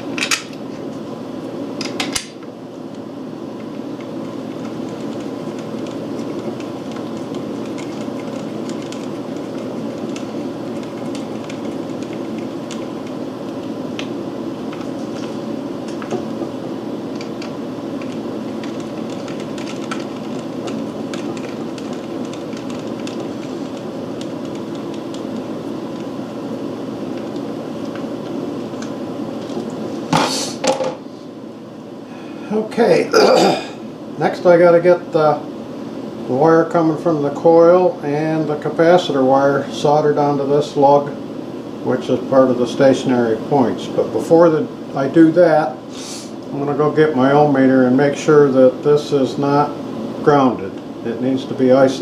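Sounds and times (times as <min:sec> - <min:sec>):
steady mechanical hum: 0:00.0 - 0:52.0.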